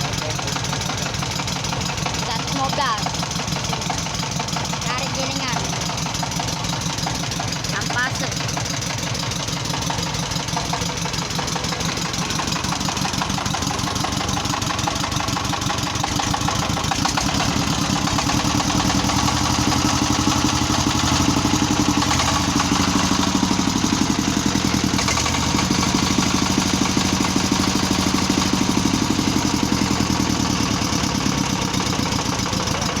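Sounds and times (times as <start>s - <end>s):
single-cylinder diesel engine running: 0.0s - 33.0s.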